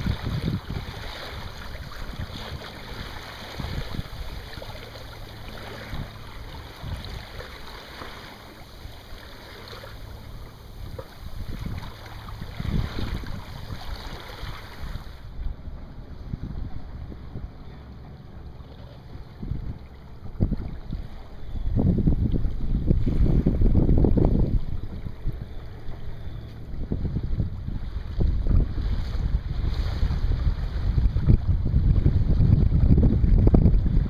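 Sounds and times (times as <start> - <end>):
wind buffeting microphone: 0.0 - 7.8, 10.0 - 34.0
water splashing along hull: 0.0 - 34.0.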